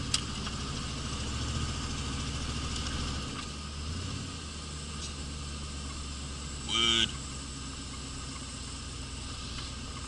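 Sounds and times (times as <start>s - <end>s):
car engine running while driving: 0.0s - 10.0s.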